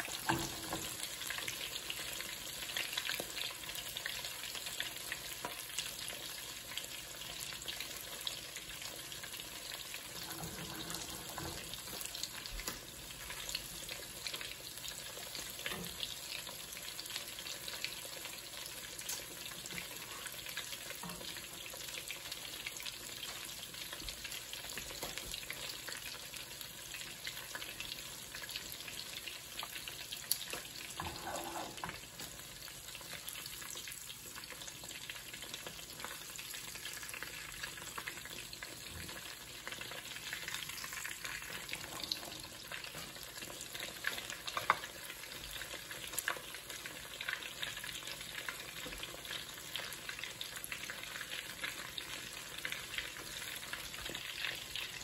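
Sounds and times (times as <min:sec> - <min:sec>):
cutlets sizzling in hot oil: 0:00.0 - 0:55.0.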